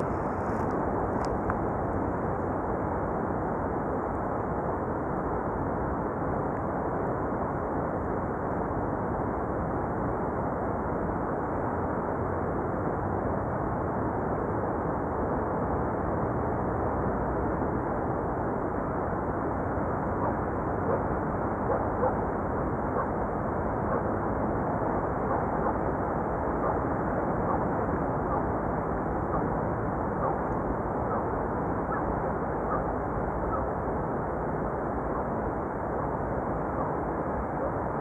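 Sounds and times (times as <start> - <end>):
wind: 0.0 - 38.0.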